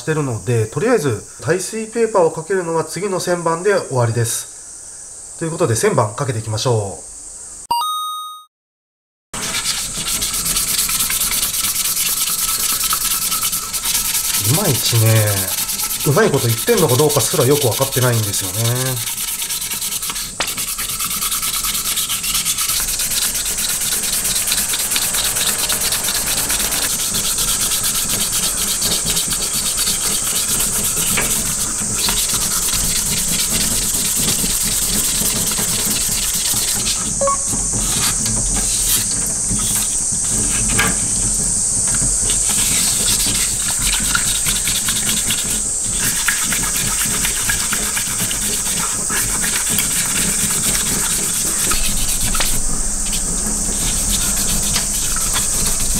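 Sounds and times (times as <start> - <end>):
sandpaper rubbing metal: 9.4 - 40.7, 42.2 - 55.9
running tap water: 9.4 - 55.9.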